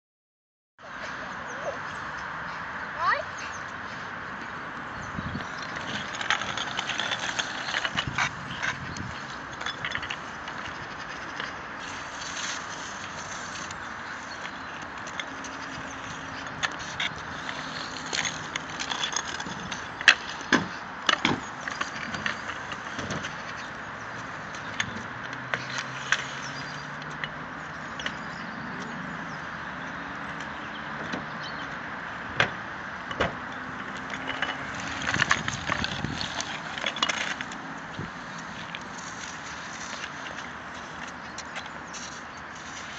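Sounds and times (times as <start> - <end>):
steady outdoor hiss: 0.9 - 42.9
scooters rolling on wet concrete: 2.9 - 30.9, 33.4 - 42.9.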